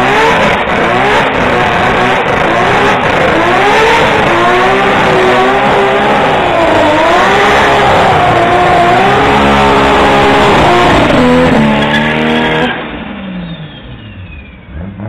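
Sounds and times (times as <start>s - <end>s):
car engine at high revs: 0.0s - 15.0s
tyres spinning and squealing: 0.4s - 14.6s.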